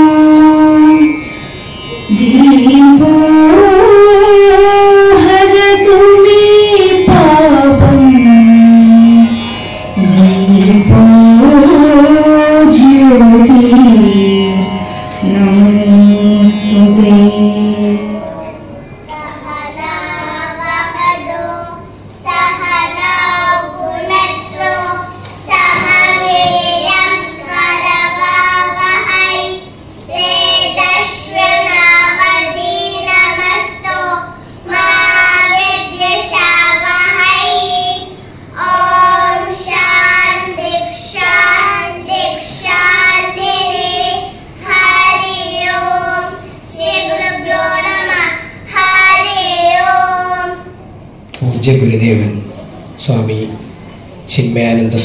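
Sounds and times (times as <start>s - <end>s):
faint steady hum: 0.0s - 55.0s
children singing: 1.9s - 50.8s.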